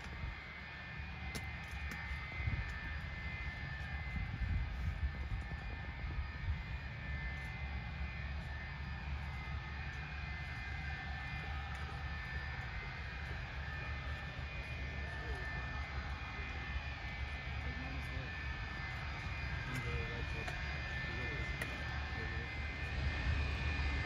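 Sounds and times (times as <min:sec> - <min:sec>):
high engine whine: 0:00.0 - 0:24.0
jet engines idling: 0:00.0 - 0:24.0.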